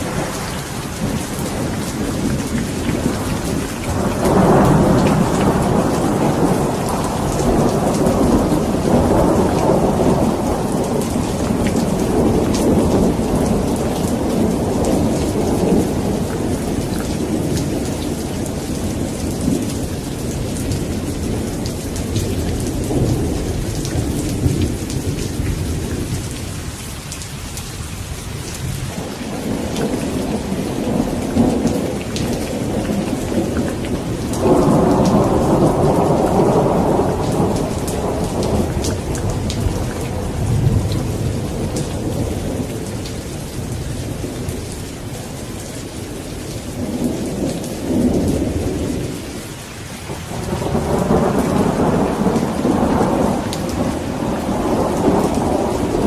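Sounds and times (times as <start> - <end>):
rolling thunder: 0.0 - 26.7, 28.4 - 49.3, 50.1 - 56.0
steady rain falling: 0.0 - 56.0.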